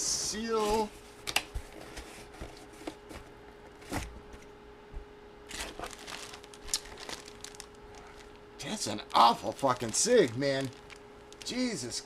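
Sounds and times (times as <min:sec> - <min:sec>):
faint steady hum: 0:00.0 - 0:12.0
cardboard and plastic rustling: 0:00.5 - 0:04.4, 0:05.5 - 0:11.9.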